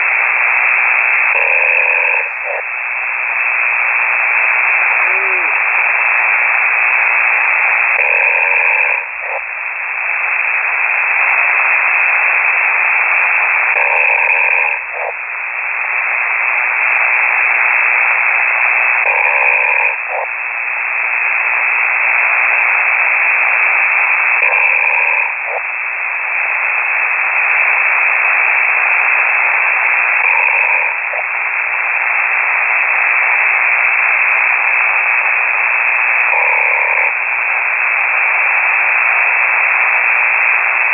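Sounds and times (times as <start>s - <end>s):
person snoring over radio: 0.0s - 9.6s, 10.4s - 15.2s, 15.8s - 20.4s, 21.1s - 25.8s, 26.4s - 40.9s
radio static hiss: 0.0s - 40.9s.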